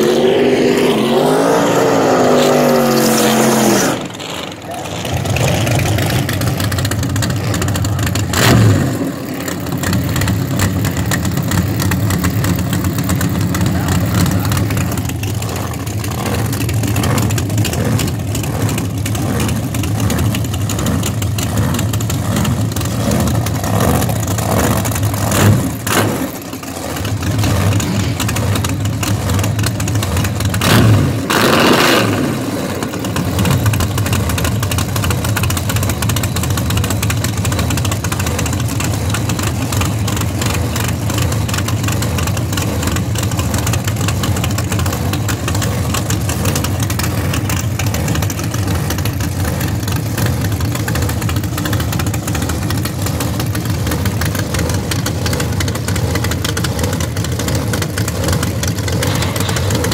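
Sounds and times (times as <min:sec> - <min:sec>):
v-eight engine idling and revving: 0:00.0 - 0:59.9.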